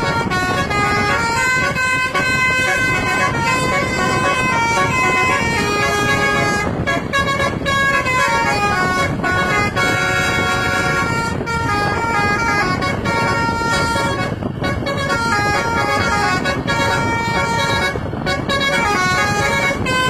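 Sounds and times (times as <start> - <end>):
air horns playing a melody: 0.0 - 20.0.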